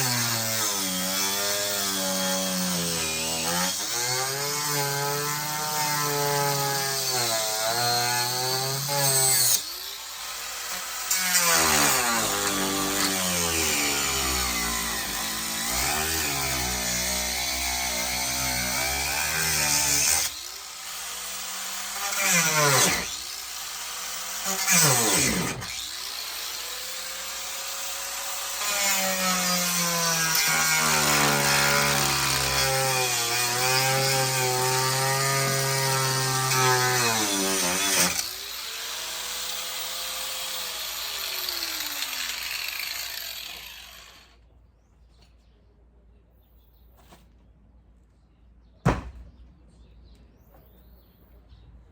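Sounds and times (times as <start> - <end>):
power tool motor: 0.0 - 44.3.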